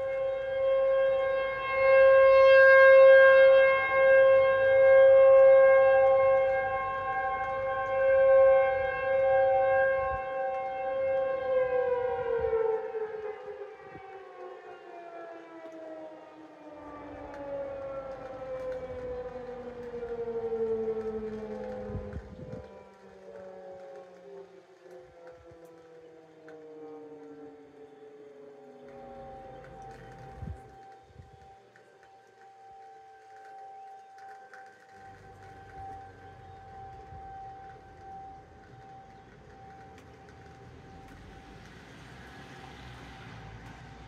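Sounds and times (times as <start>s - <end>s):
warning siren steady tone: 0.0s - 44.0s.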